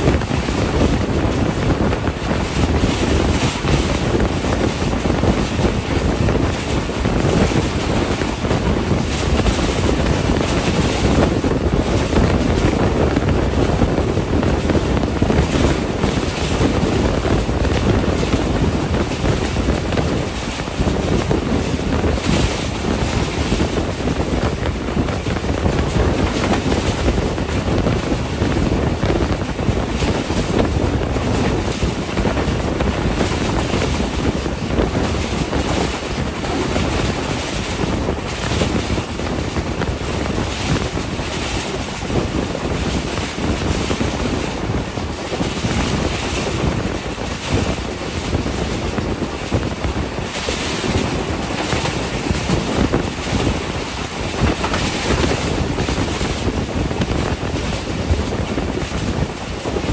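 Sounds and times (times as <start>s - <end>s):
rush of wind: 0.0s - 59.9s
train wheels rolling on rails: 0.0s - 59.9s
wind buffeting microphone: 0.0s - 59.9s.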